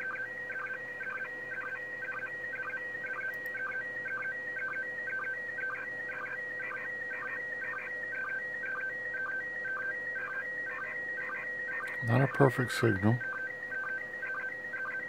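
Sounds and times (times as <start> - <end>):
warbling radio tone pattern: 0.0 - 15.0.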